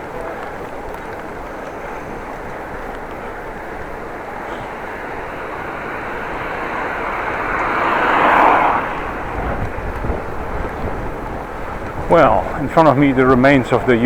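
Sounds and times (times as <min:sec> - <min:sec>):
wind rumble on microphone: 0:00.0 - 0:14.0
vehicle passing by: 0:00.8 - 0:13.3.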